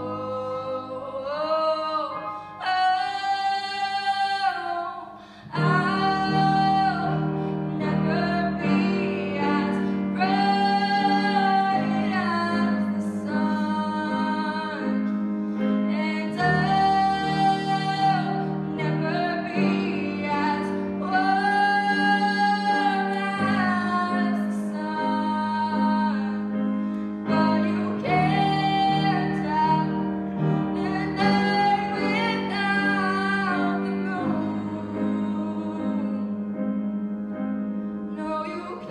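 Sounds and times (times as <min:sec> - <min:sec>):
girl singing: 0:00.0 - 0:15.1, 0:15.9 - 0:26.4, 0:27.3 - 0:36.3, 0:38.2 - 0:38.9
piano chords: 0:00.0 - 0:38.9.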